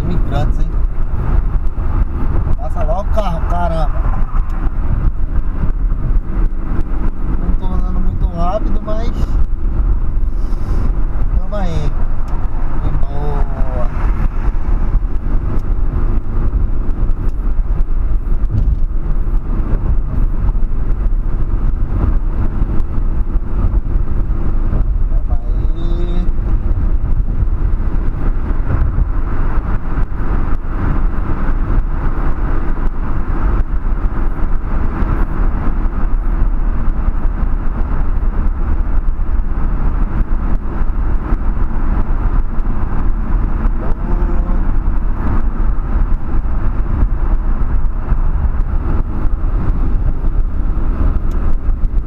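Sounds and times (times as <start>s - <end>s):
car engine drone: 0.0s - 52.0s
tyre and road noise: 0.0s - 52.0s.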